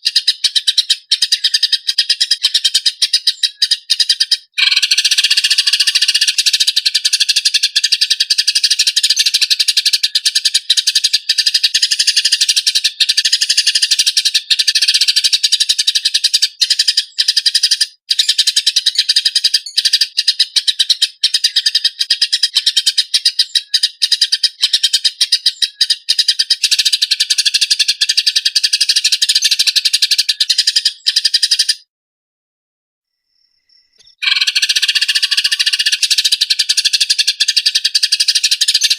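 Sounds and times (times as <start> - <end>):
sparrows chirping harshly: 0.0 - 31.9, 33.4 - 38.9.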